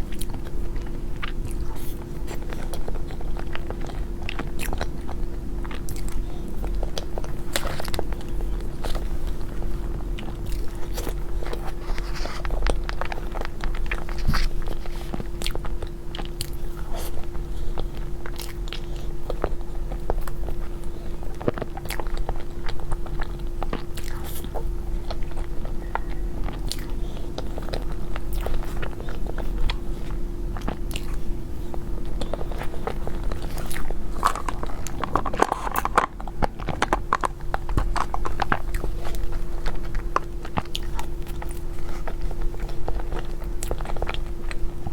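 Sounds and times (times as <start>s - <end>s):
steady low hum: 0.0s - 44.9s
wet chewing: 0.0s - 44.9s.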